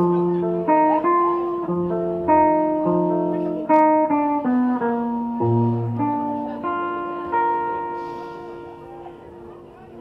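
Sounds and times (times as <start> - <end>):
picked guitar melody: 0.0 - 10.0.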